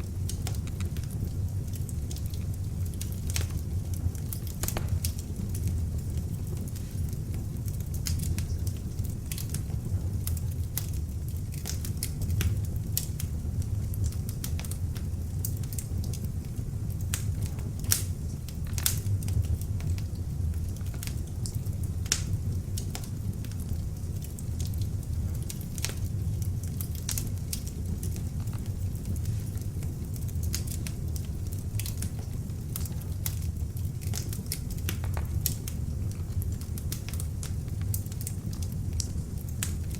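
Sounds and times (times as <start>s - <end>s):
fire flames rumbling: 0.0s - 39.9s
wood crackling and popping: 0.0s - 39.9s.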